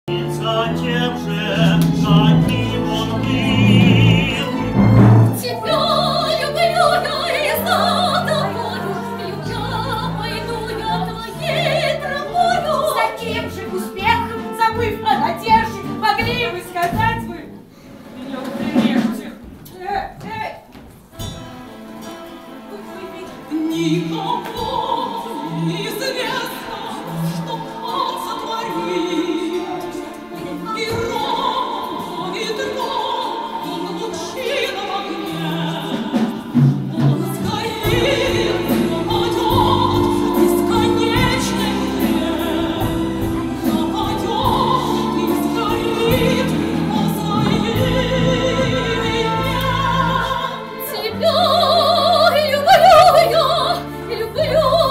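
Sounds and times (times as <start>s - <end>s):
orchestral accompaniment: 0.0s - 19.3s, 21.0s - 54.9s
operatic singing with vibrato: 0.0s - 20.3s, 21.3s - 54.9s.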